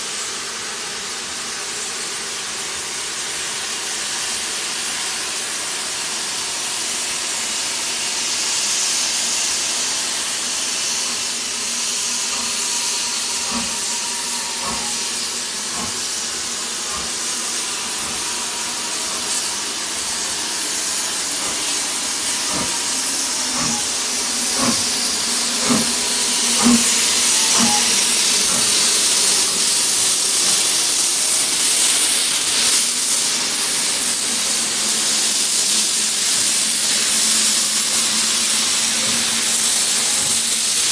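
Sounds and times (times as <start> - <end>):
steam locomotive hissing steam: 0.0 - 40.9.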